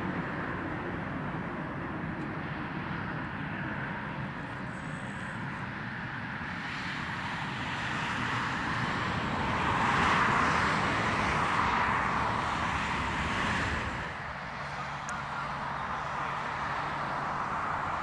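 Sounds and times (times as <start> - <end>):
jet engines reverse thrust: 0.0 - 18.0.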